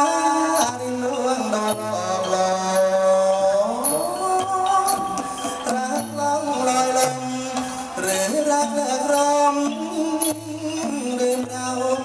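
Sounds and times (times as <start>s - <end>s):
musical accompaniment: 0.0s - 12.0s
person singing long sliding notes: 0.0s - 12.0s.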